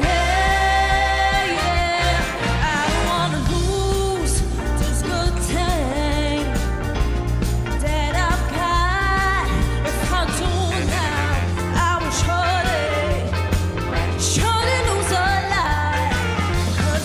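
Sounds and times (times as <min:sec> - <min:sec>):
woman singing into microphone: 0:00.0 - 0:06.6, 0:07.7 - 0:13.4, 0:14.1 - 0:17.0
bass line: 0:00.0 - 0:17.0
big band playing: 0:00.0 - 0:17.0
steady drum beat: 0:00.0 - 0:17.0.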